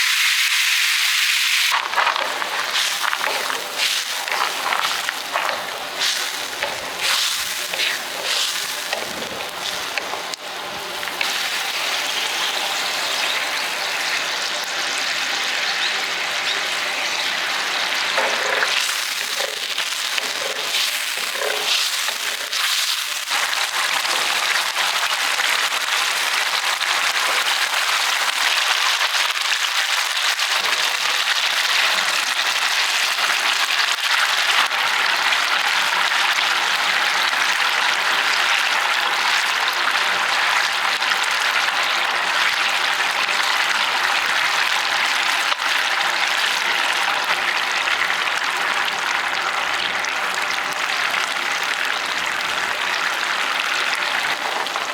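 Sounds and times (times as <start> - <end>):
steak sizzling over fire: 0.0 - 49.6.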